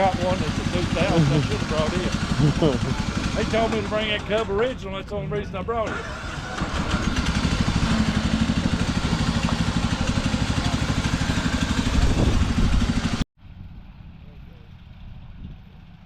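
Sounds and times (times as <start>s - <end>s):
tractor engine idling: 0.0s - 13.2s.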